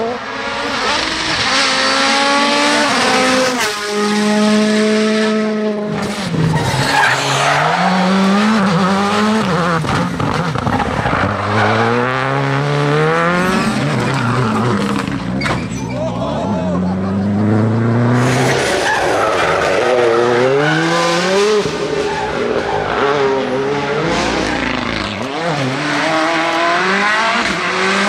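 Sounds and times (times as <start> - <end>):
rally cars at full throttle: 0.0 - 28.0.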